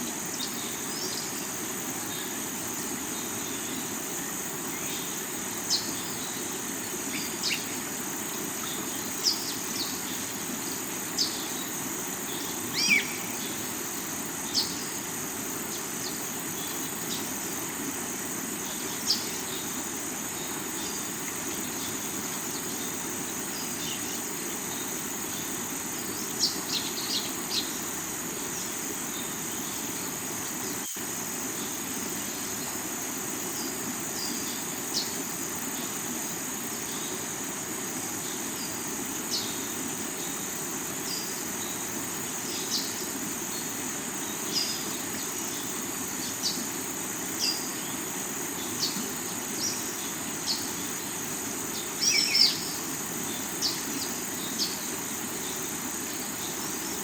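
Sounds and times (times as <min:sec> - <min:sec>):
crickets chirping: 0:00.0 - 0:57.0
insects droning: 0:00.0 - 0:57.0.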